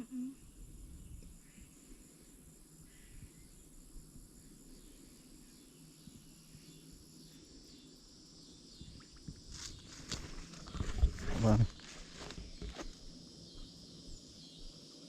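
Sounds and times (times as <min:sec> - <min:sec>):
high-pitched insect trilling: 0:00.0 - 0:15.0.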